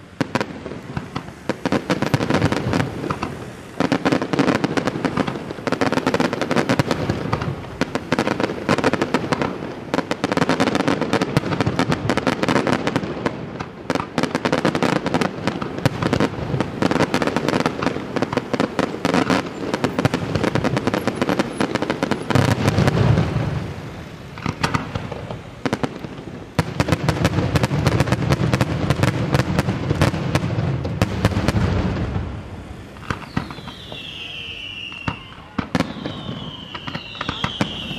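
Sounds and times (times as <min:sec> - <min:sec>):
fireworks bursting and cracking: 0:00.0 - 0:37.9.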